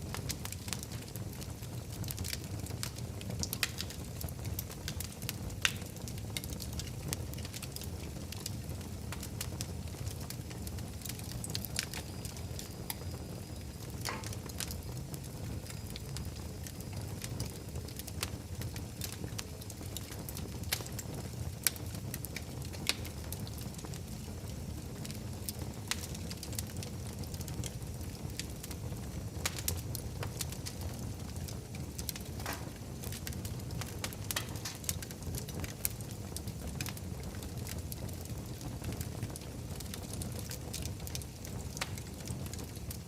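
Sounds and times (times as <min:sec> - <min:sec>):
fire crackling and popping: 0:00.0 - 0:43.0
fire rumbling: 0:00.0 - 0:43.0.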